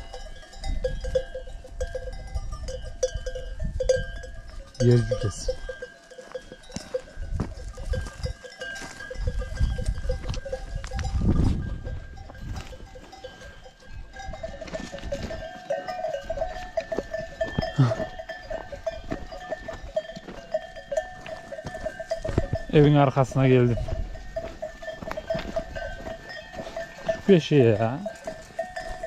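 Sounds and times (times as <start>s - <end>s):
goat bells clinking: 0.0s - 29.0s.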